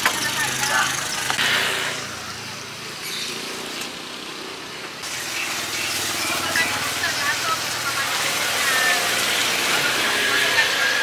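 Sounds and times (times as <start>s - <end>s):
traffic passing: 0.0s - 11.0s.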